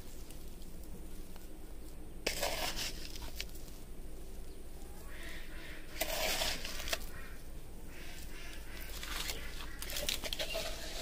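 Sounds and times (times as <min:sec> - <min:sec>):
sand pattering onto soil: 0:00.0 - 0:11.0.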